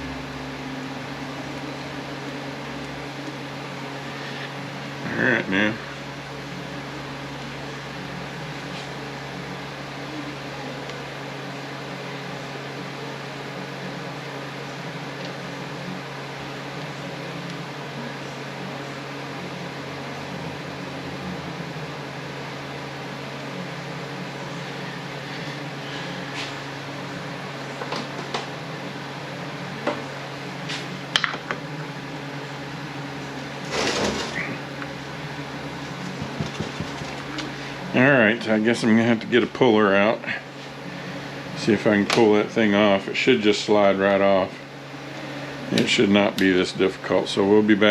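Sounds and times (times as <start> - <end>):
mechanical fan hum: 0.0 - 47.9.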